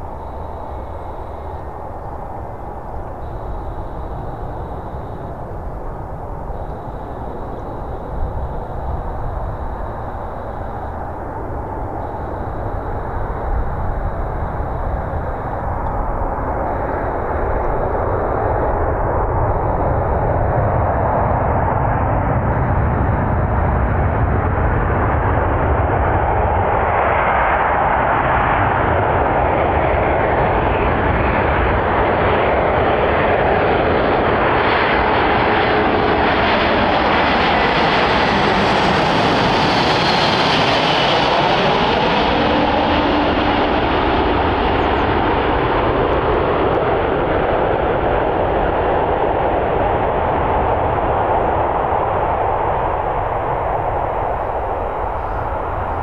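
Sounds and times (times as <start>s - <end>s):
jet aircraft passing overhead: 0.0s - 56.0s.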